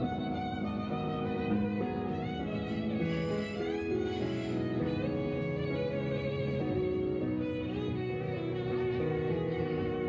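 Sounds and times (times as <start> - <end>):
steady musical accompaniment: 0.0 - 10.0
violin playing long held notes: 0.0 - 10.0.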